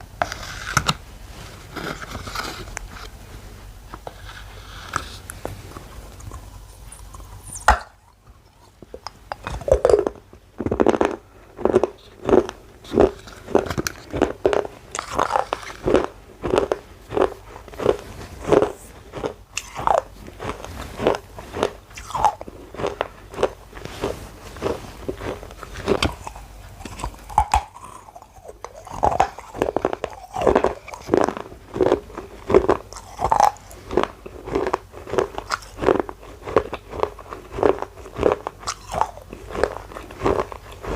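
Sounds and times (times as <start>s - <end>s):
person chewing crunchy clay: 0.2s - 3.2s, 4.0s - 40.9s.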